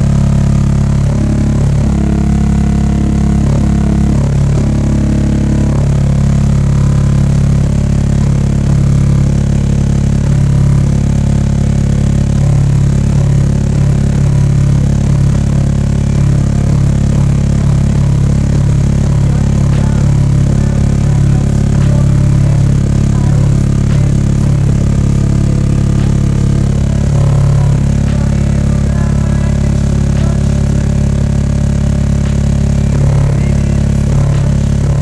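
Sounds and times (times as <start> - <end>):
speaker box buzzing and rattling: 0.0 - 35.0
subwoofer low test tone: 0.0 - 35.0.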